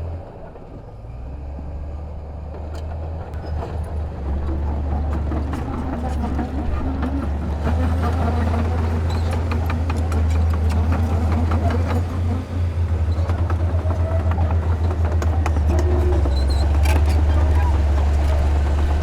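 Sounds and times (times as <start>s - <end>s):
bulldozer diesel engine droning: 0.0s - 19.0s
tracks and rock clanking: 2.8s - 19.0s.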